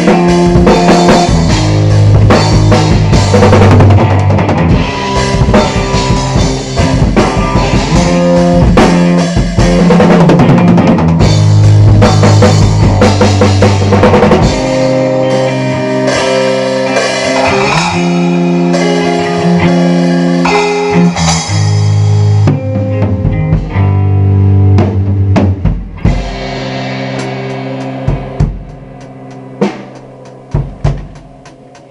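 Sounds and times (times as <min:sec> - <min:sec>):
drum kit with cymbals: 0:00.0 - 0:31.9
guitar sustained chords: 0:00.0 - 0:31.9.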